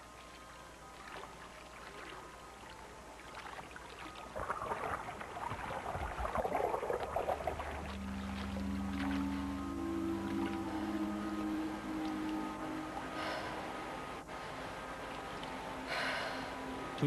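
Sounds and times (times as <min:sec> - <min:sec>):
low held music tones: 0:00.0 - 0:17.0
watery gurgling swell: 0:01.0 - 0:15.1.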